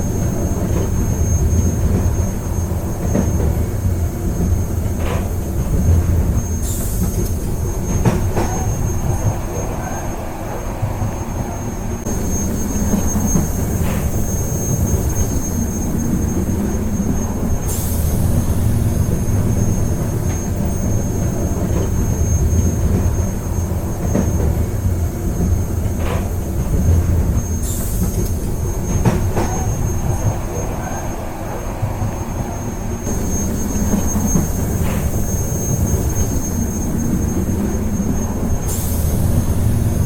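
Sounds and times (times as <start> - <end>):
train carriage rumbling: 0.0 - 40.0.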